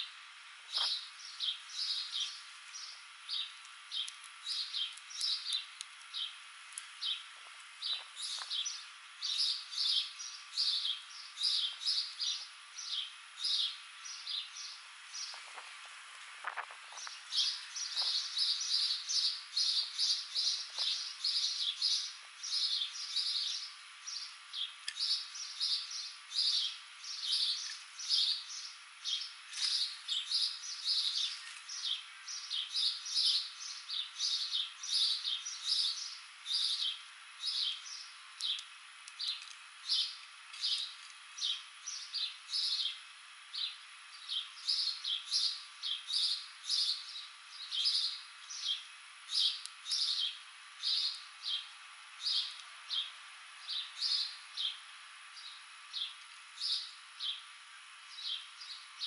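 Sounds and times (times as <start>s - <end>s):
songbird chirping: 0.7s - 15.6s, 16.5s - 59.0s.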